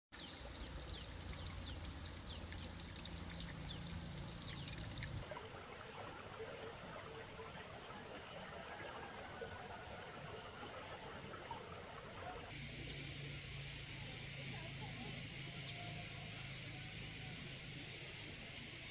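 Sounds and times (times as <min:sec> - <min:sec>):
high insect drone: 0:00.2 - 0:18.9.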